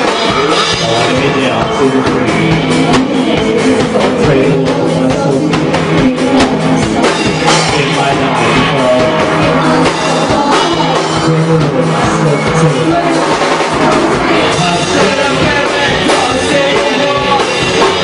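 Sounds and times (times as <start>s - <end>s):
drum kit beat: 0.0s - 18.0s
electric guitar: 0.0s - 18.0s.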